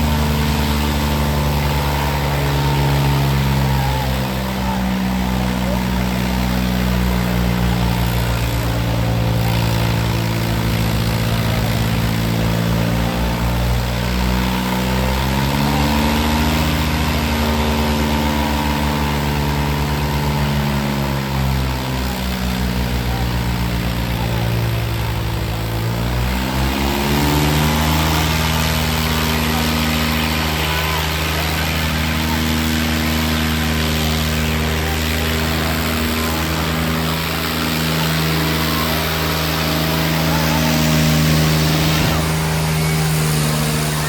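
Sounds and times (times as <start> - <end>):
diesel tractor engines under load: 0.0 - 44.0.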